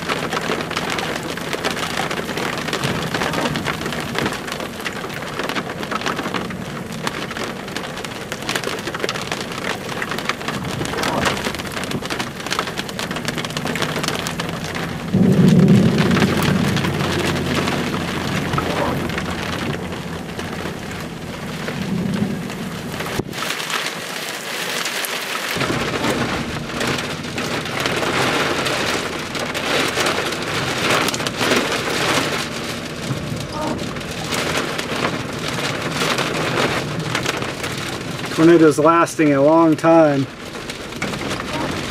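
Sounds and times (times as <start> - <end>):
low rumble: 0.0 - 23.4, 25.6 - 38.9
heavy rain falling: 0.0 - 41.9.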